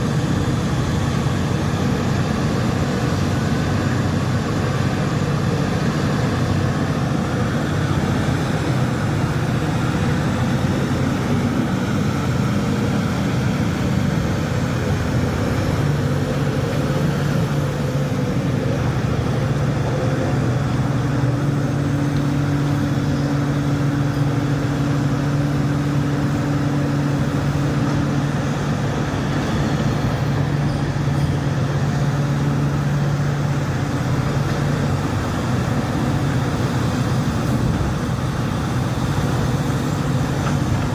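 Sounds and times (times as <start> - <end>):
diesel engine hum: 0.0 - 40.9.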